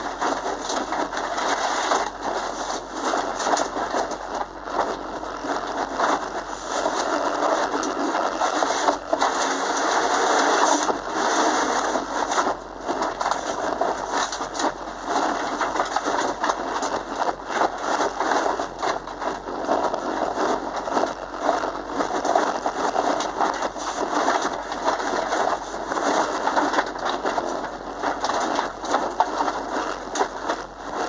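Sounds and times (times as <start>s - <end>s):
gravel rattling against underbody: 0.0s - 31.0s.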